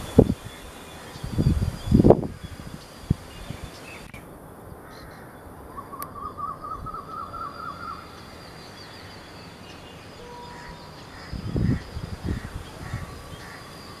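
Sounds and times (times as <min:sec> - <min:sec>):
high bird chirps: 0:00.0 - 0:04.3, 0:04.9 - 0:14.0
bird warbling trill: 0:00.0 - 0:14.0
short bird calls: 0:00.0 - 0:14.0.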